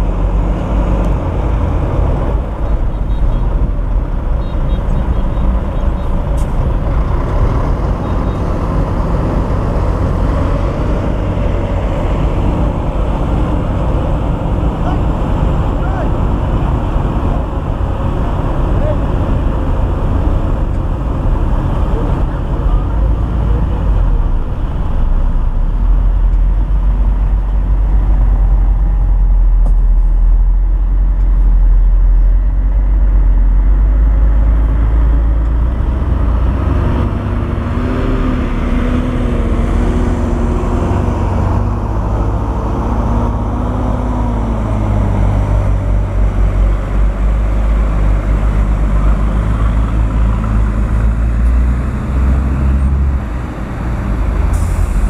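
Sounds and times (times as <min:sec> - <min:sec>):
diesel engine rumbling under load: 0:00.0 - 0:55.0.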